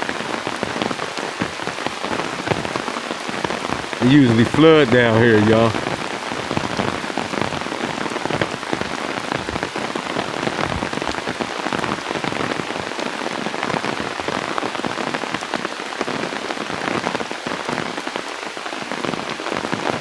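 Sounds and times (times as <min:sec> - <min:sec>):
heavy rain pattering: 0:00.0 - 0:20.0.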